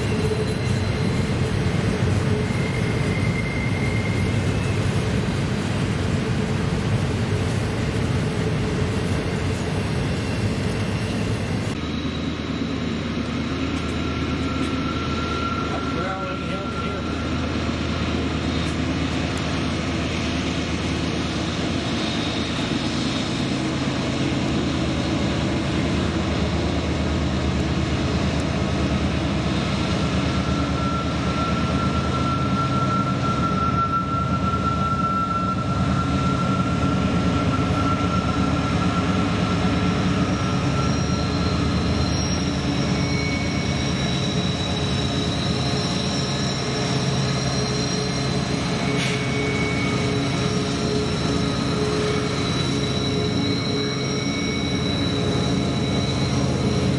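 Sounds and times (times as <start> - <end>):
diesel locomotive engine drone: 0.0 - 56.9.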